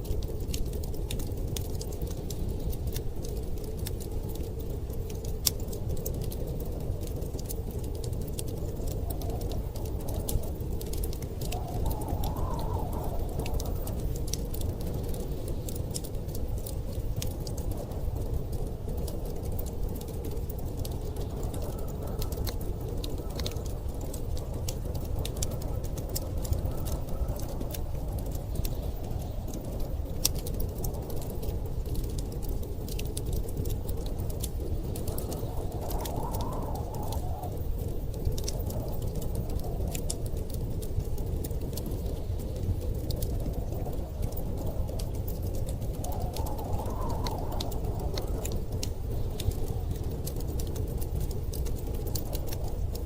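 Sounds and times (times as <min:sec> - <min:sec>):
low rumble of storm wind: 0:00.0 - 0:53.0
wood fire crackling and popping: 0:00.0 - 0:53.0.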